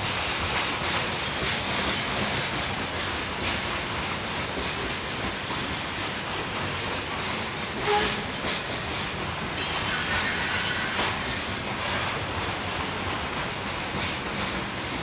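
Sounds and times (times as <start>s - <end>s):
freight train rolling past: 0.0s - 15.0s
train wheels squealing on rails: 0.0s - 15.0s.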